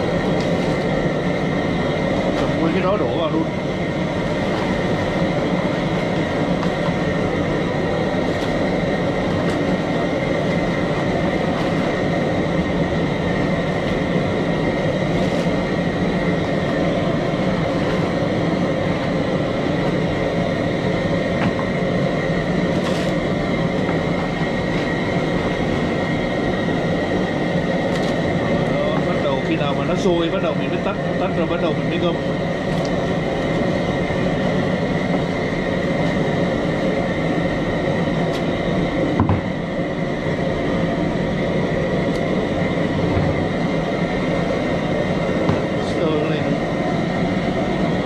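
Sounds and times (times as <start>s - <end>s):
faint steady whine: 0.0s - 48.0s
gas burner rushing: 0.0s - 48.0s
water bubbling at a boil: 0.0s - 48.0s.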